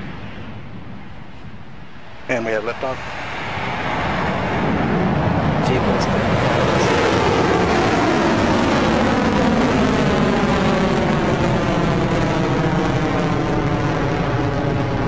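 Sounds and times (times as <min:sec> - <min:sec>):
rocket engines rumbling: 0:00.0 - 0:15.0.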